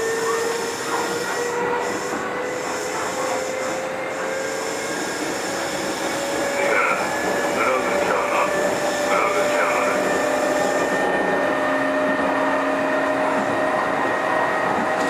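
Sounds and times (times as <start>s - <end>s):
train wheel and rail noise: 0.0s - 15.0s.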